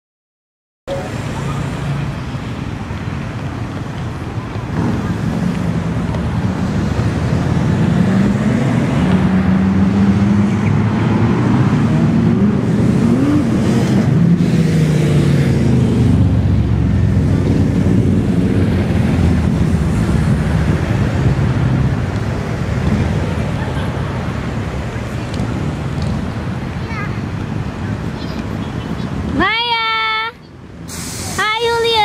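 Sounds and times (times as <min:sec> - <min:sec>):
traffic noise: 0:00.9 - 0:32.0.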